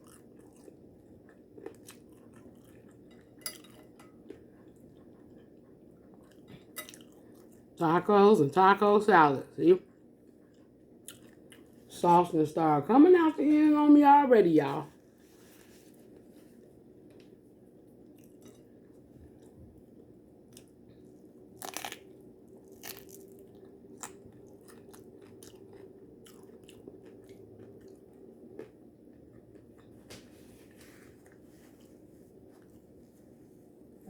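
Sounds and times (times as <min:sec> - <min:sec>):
chewing and crunching taco: 0:00.0 - 0:07.8, 0:09.5 - 0:12.0, 0:15.0 - 0:33.8.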